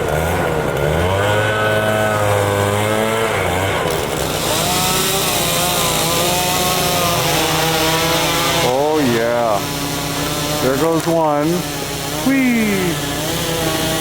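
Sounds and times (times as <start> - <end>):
chainsaw cutting a branch: 0.0 - 14.0.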